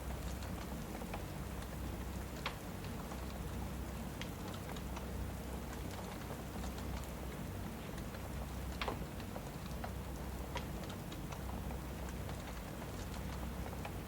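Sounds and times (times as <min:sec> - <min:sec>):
fireplace crackling and popping: 0:00.0 - 0:14.0
low steady rumble: 0:00.0 - 0:14.0
steady rain: 0:00.0 - 0:14.0.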